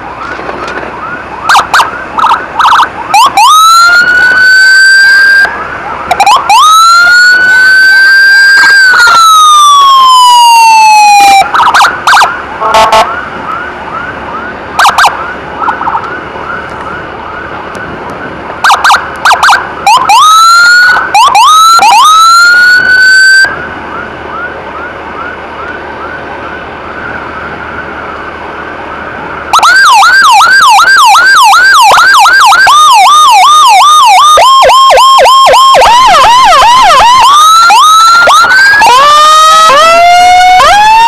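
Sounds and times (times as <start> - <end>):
electronic emergency siren: 1.0 - 17.6, 18.2 - 28.0, 29.5 - 41.0.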